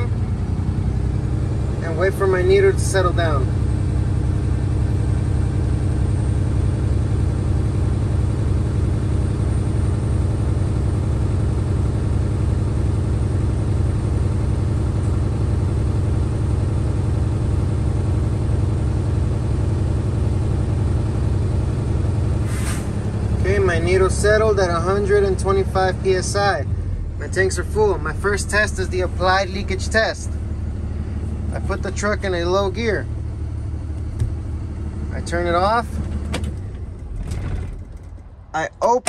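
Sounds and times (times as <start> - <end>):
truck diesel engine fast idle: 0.0 - 39.0.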